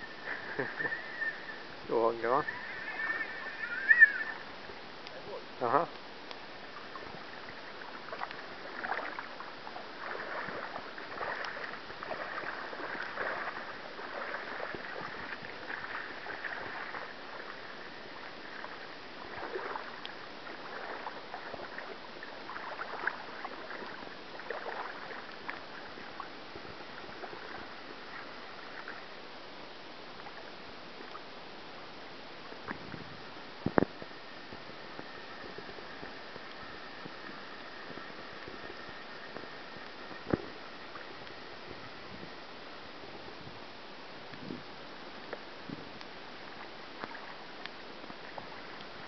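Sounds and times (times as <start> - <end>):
river water lapping at shore: 0.0 - 49.0.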